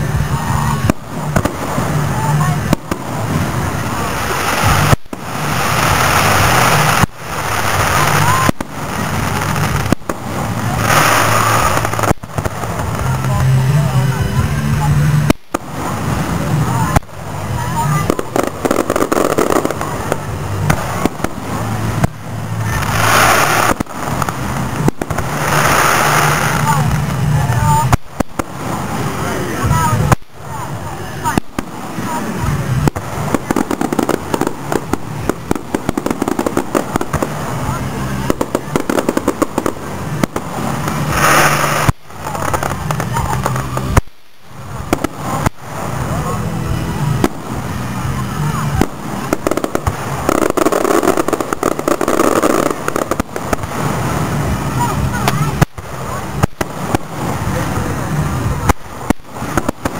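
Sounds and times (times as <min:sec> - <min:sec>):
firework bangs: 0:00.0 - 0:59.9
firework crackling: 0:00.0 - 0:59.9.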